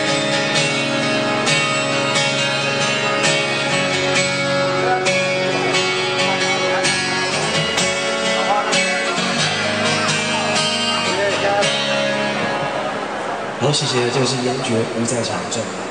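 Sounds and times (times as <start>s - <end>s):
guitar strumming and plucking: 0.0s - 14.8s.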